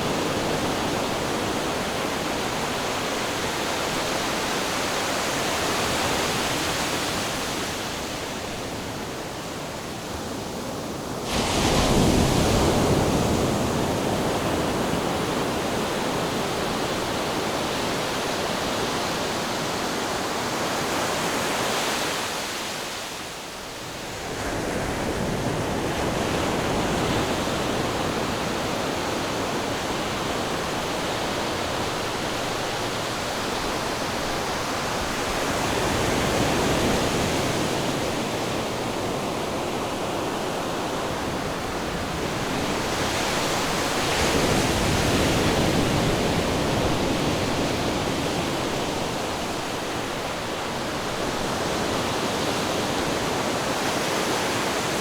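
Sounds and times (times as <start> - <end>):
ocean waves washing on shore: 0.0 - 55.0.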